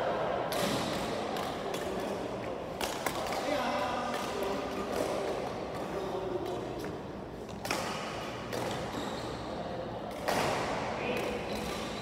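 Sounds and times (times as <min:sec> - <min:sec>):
racket hitting shuttlecock: 0:00.5 - 0:09.2, 0:10.1 - 0:12.0.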